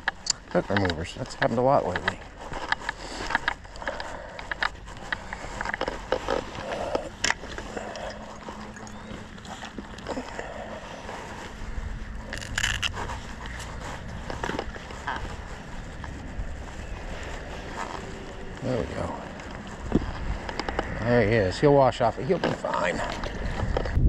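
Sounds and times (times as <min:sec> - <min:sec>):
fishing gear clicks and scrapes: 0:00.0 - 0:24.0
wind rumble on microphone: 0:01.8 - 0:24.0.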